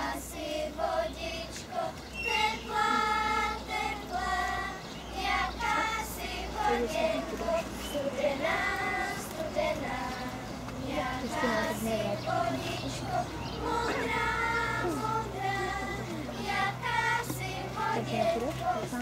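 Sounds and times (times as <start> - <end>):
girls singing folk song: 0.0 - 19.0.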